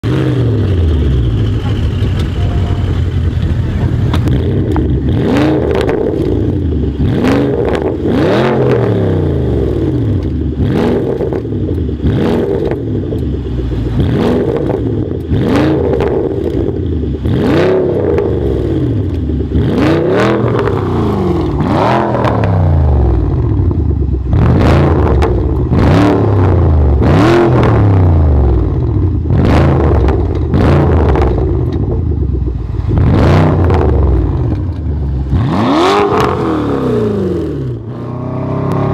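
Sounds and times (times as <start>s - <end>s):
car engine revving: 0.0s - 38.9s
exhaust crackles and pops: 0.6s - 8.1s, 9.8s - 27.8s, 28.6s - 36.6s.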